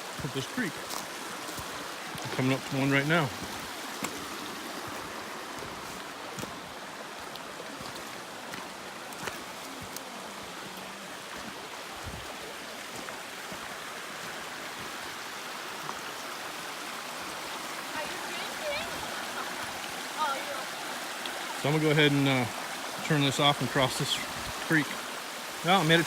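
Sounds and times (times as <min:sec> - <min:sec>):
creek running over rocks: 0:00.0 - 0:26.0.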